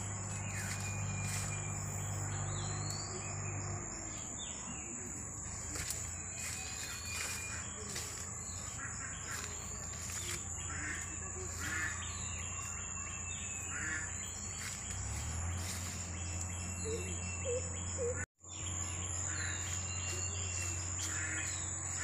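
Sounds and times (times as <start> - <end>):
birds chirping: 0.0 - 22.0
high-pitched insect drone: 0.0 - 22.0
low hum: 0.0 - 22.0.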